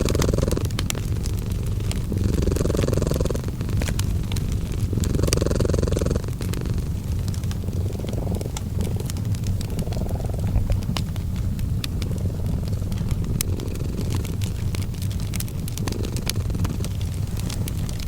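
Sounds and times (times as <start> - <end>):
cat purring: 0.0 - 18.0
fireplace crackling: 0.0 - 18.0.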